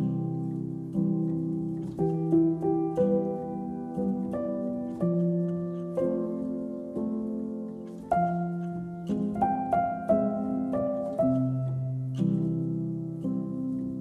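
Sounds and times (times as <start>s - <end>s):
soft plucked instrumental music: 0.0s - 14.0s.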